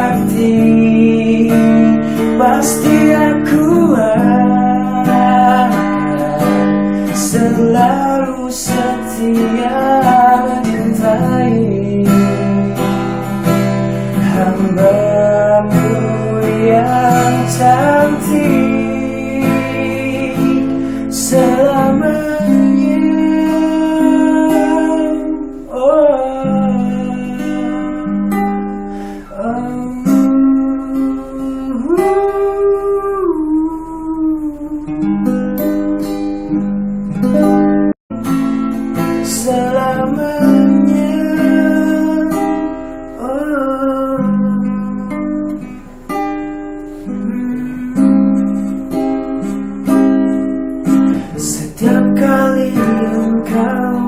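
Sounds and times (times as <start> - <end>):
acoustic guitar strumming chords: 0.0 - 54.0.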